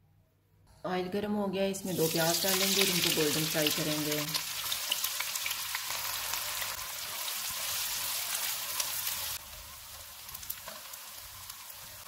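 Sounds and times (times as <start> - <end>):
onions sizzling in hot oil: 1.9 - 12.0.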